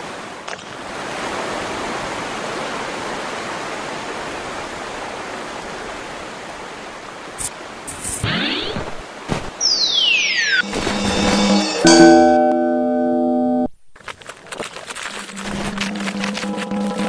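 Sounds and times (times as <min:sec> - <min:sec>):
rushing river water: 0:00.0 - 0:12.8, 0:14.0 - 0:17.0.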